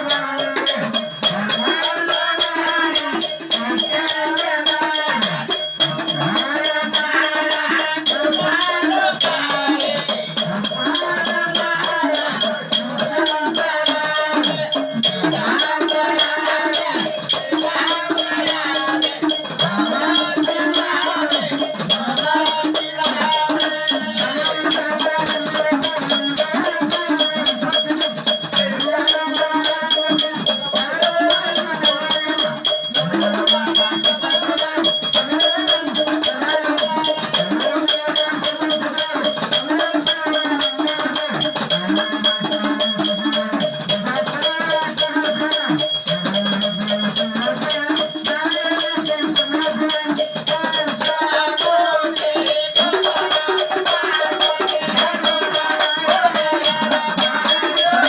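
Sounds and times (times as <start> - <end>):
person singing: 0.0 - 58.0
shaken rattling percussion: 0.0 - 58.0.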